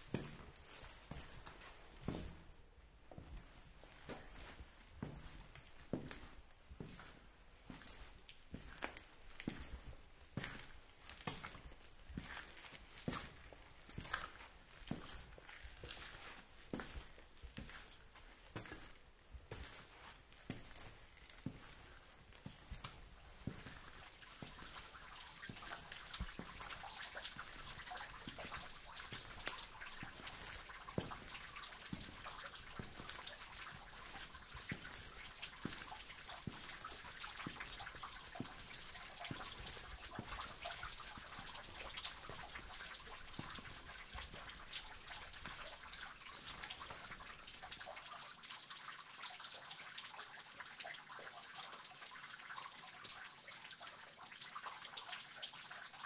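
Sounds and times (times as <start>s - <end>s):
water drips falling into water: 0.0s - 56.0s
water trickling: 3.8s - 56.0s.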